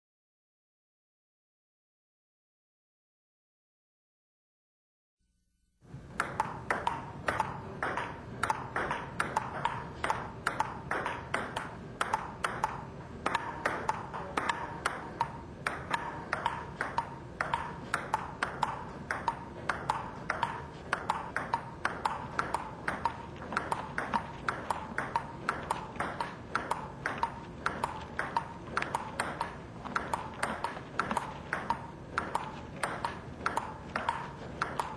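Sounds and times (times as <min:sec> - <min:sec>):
table tennis ball clicking: 0:06.0 - 0:34.9.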